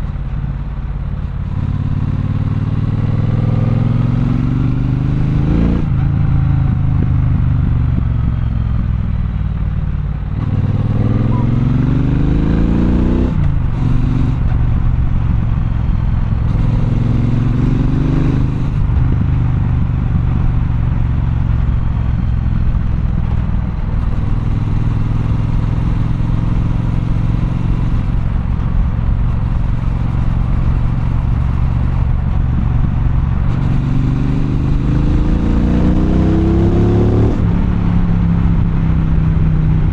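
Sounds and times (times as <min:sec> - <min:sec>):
motorcycle engine shifting gears: 0:01.1 - 0:39.9.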